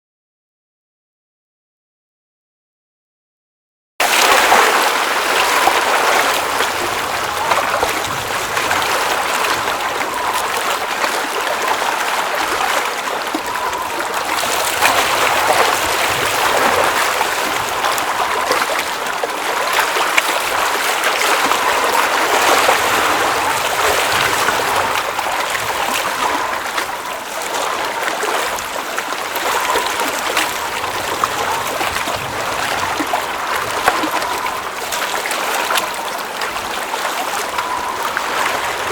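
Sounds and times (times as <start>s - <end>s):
small water splashes: 4.0s - 38.9s
water running and trickling: 4.1s - 38.9s.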